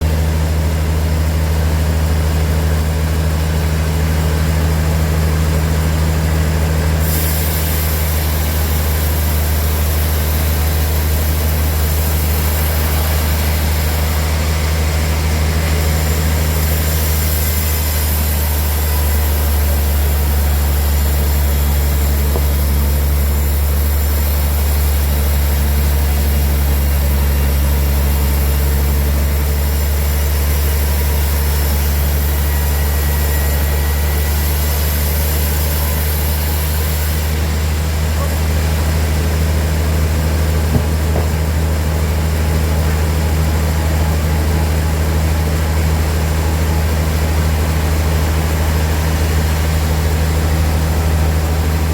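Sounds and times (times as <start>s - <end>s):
sawmill machinery humming: 0.0s - 51.9s.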